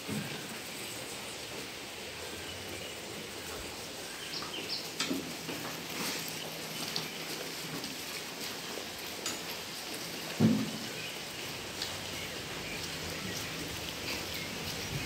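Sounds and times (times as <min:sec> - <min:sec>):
sheep feeding rustling: 0:00.0 - 0:15.0.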